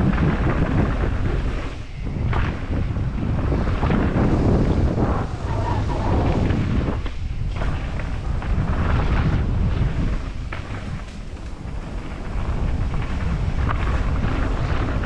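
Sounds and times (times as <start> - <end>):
bike knocking and rattling: 0.0 - 15.0
tyres rolling on dirt trail: 0.0 - 15.0
wind rushing over microphone: 0.0 - 15.0.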